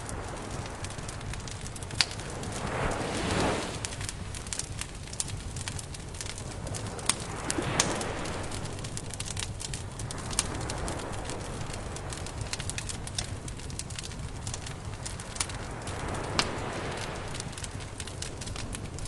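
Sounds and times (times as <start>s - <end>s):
campfire crackling and popping: 0.0s - 19.0s
low rush of fire: 0.0s - 19.0s.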